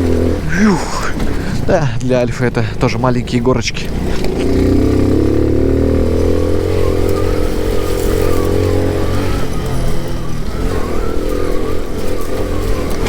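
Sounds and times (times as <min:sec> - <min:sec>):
moped engine running under load: 0:00.0 - 0:13.0.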